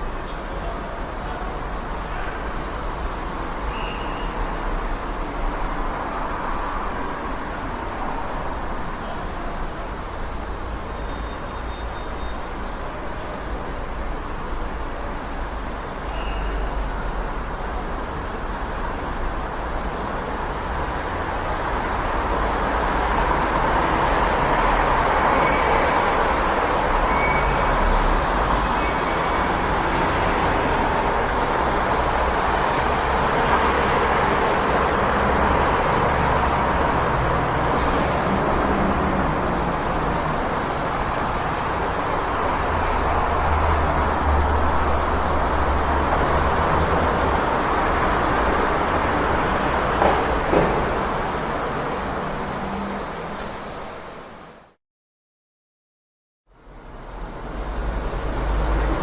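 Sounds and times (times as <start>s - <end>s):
city street traffic: 0.0s - 54.8s, 56.4s - 59.0s.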